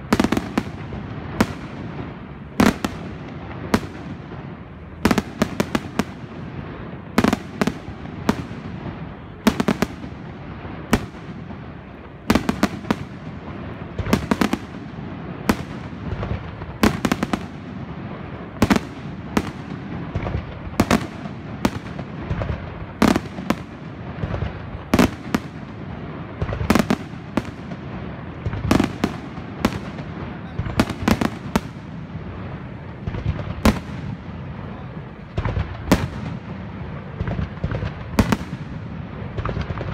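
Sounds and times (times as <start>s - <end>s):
rumble and crackle: 0.0s - 39.9s.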